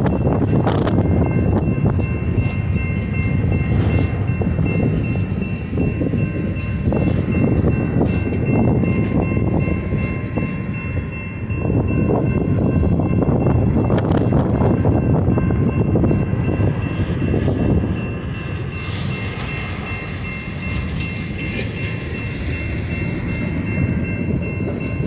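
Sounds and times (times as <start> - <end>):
train cars rumbling past: 0.0 - 25.0.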